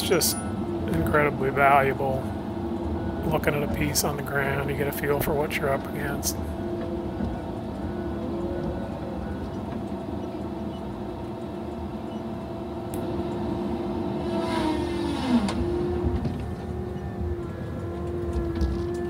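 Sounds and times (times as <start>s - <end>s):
heavy machine humming and whining: 0.0s - 19.0s.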